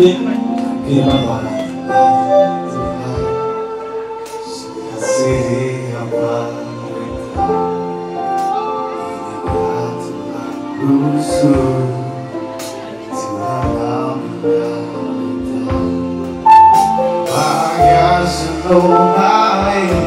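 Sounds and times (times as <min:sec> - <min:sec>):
amplified backing music: 0:00.0 - 0:20.0
man singing into microphone: 0:00.0 - 0:20.0.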